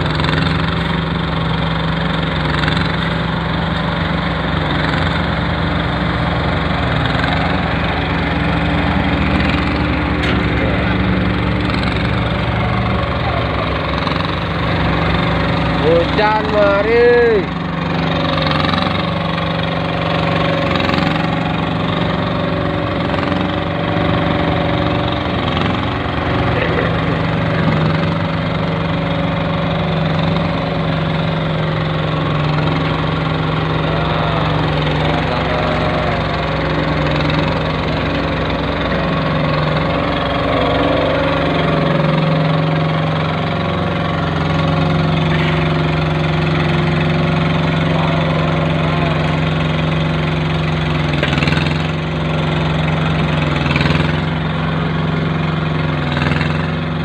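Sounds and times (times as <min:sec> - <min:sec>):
machine engine running: 0:00.0 - 0:57.0.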